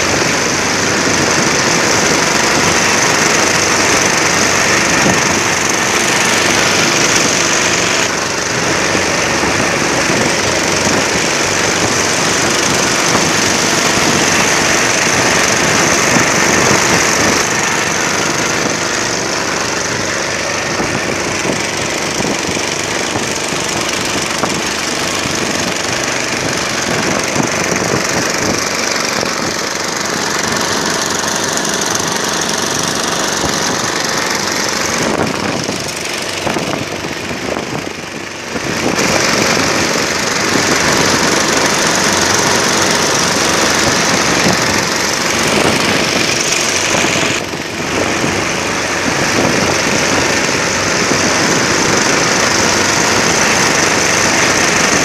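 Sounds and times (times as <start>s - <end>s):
boat engine knocking: 0.0s - 55.0s
rain hissing: 0.0s - 55.0s
wind: 0.0s - 55.0s.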